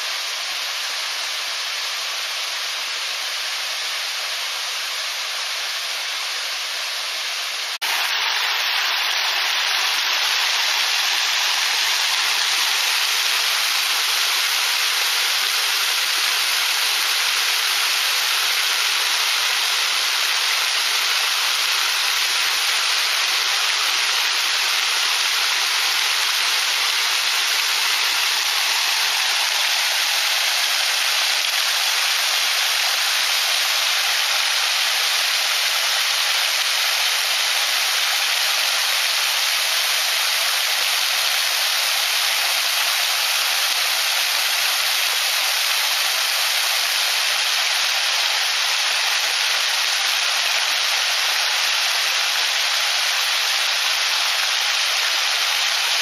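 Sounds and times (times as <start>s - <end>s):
small waterfall splashing: 0.0s - 56.0s.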